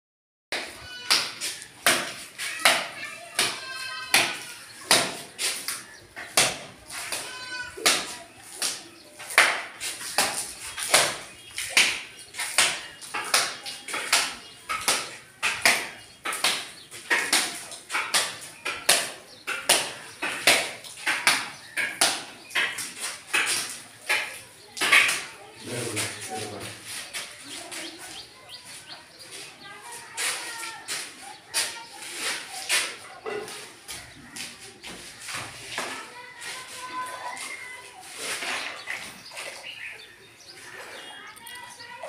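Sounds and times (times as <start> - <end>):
trowel scraping and slapping plaster: 0.6 - 41.6.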